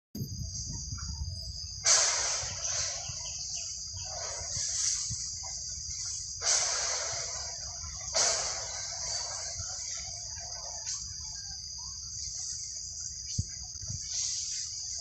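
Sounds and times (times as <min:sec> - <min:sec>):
insects buzzing high pitch: 0:00.2 - 0:15.0.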